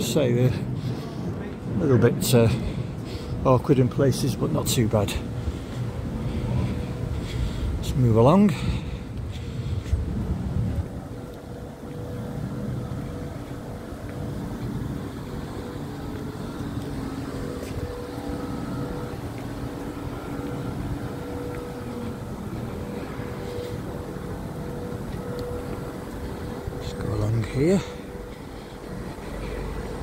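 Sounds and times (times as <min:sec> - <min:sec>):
air conditioning units humming: 0:00.0 - 0:30.0.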